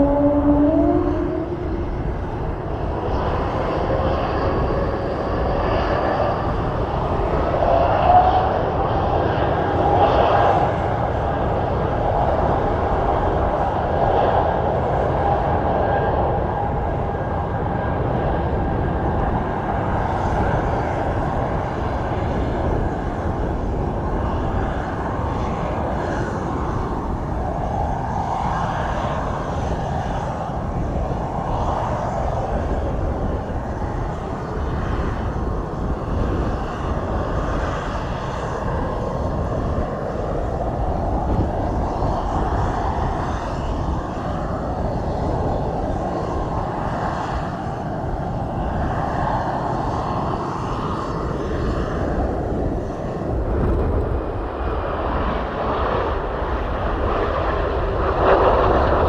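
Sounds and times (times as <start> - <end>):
airplane engines rumbling: 0.0 - 59.0
engine whine: 0.0 - 59.0.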